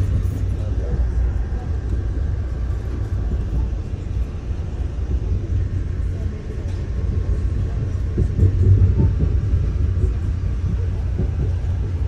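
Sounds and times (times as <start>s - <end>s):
moving train rumble: 0.0s - 12.0s
train wheels on rails: 0.0s - 12.0s.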